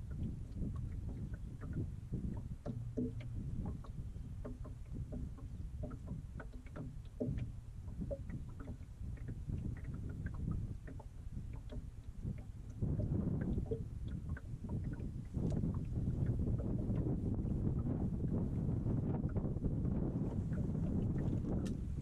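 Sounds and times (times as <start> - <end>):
steady low rumble: 0.0 - 22.0
waves lapping against boat: 0.0 - 22.0.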